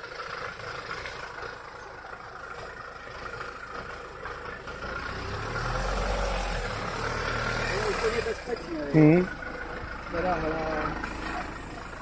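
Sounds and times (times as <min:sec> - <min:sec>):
car driving through mud: 0:00.0 - 0:12.0
car engine rumbling: 0:00.0 - 0:12.0.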